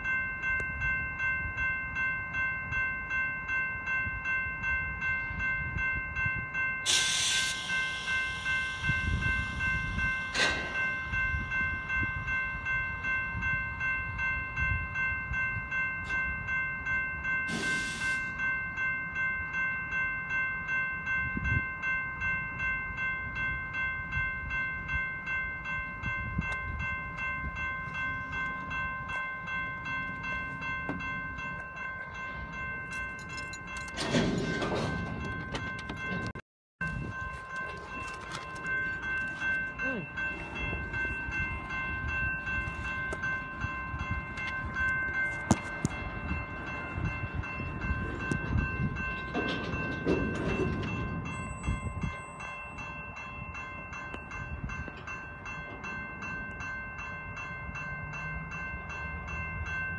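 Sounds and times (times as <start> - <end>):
crossing bell ringing: 0.0 - 59.9
freight train rumbling: 4.6 - 18.5, 22.9 - 59.8.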